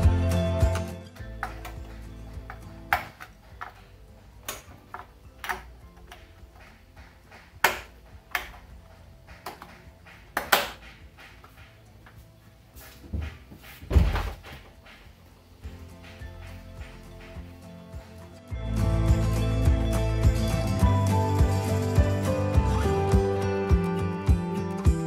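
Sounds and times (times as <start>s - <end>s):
faint background music: 0.0s - 25.0s.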